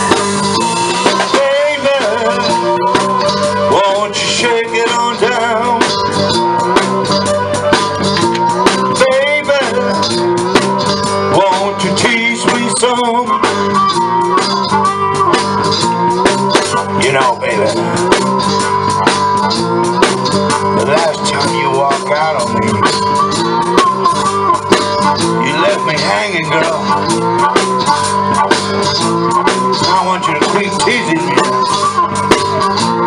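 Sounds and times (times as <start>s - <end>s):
blues guitar: 0.0s - 33.0s
drum kit beat: 0.0s - 33.0s.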